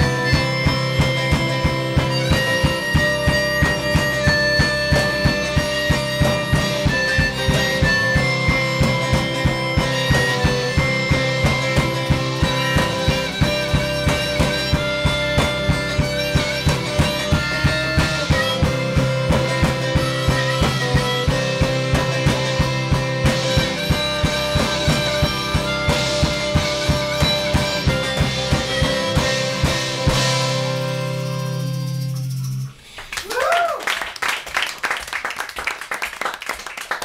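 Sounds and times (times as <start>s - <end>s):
harmonica: 0.0s - 33.0s
live rock band playing: 0.0s - 33.0s
drum kit beat: 0.0s - 33.6s.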